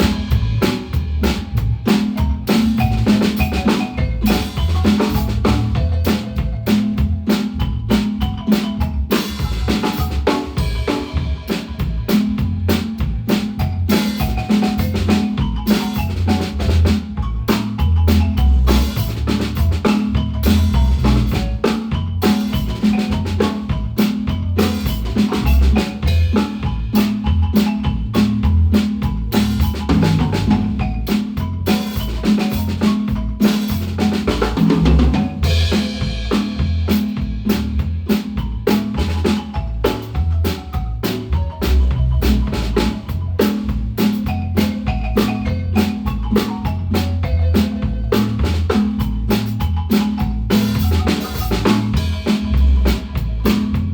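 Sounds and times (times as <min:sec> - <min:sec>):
bass drum and snare beat: 0:00.0 - 0:53.9
marimba mallet notes: 0:00.0 - 0:53.9.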